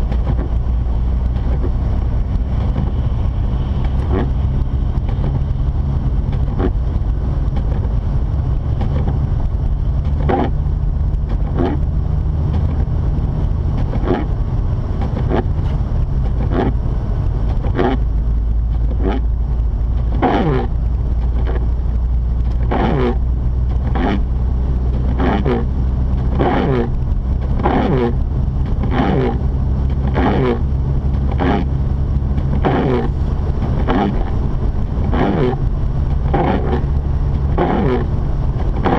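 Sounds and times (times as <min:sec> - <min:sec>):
car engine drone: 0:00.0 - 0:38.9
road noise: 0:00.0 - 0:38.9
windshield wipers swishing: 0:00.0 - 0:38.9.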